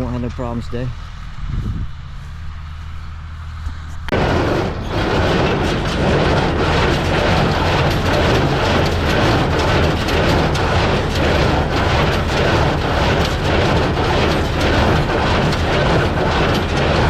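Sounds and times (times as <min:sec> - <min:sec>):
baler mechanical clatter: 0:00.0 - 0:17.0
tractor engine idling: 0:00.0 - 0:17.0.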